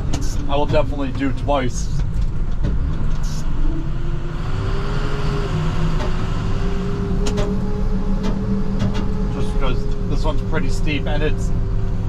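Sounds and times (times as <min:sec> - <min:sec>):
steady whine: 0:00.0 - 0:12.0
truck engine rumbling: 0:00.0 - 0:12.0.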